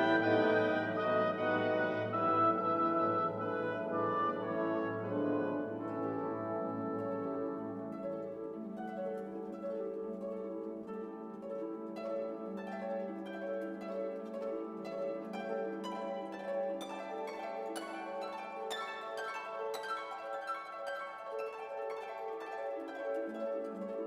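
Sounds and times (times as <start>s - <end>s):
held orchestral notes: 0.0s - 24.0s.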